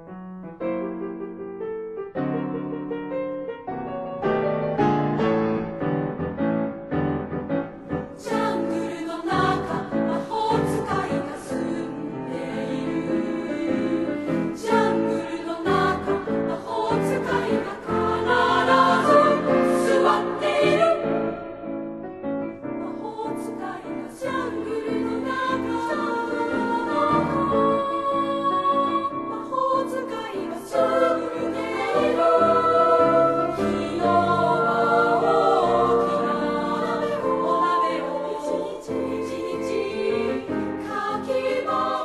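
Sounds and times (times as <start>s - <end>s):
piano accompaniment: 0.0s - 42.0s
choir singing: 7.0s - 42.0s.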